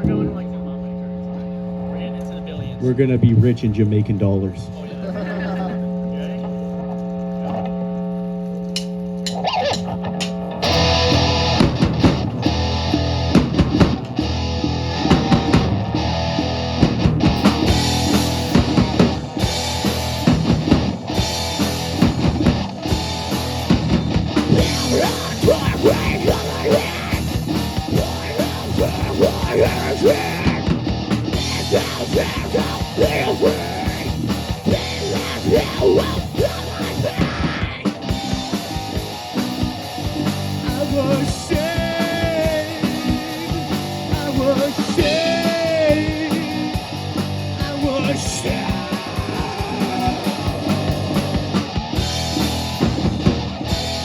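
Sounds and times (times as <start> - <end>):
busy drumming: 8.8 - 54.0
rock band playing loudly: 8.8 - 54.0.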